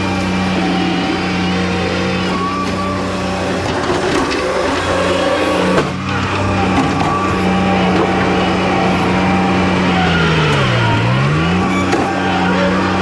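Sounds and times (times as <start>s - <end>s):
loader engine running: 0.0s - 13.0s.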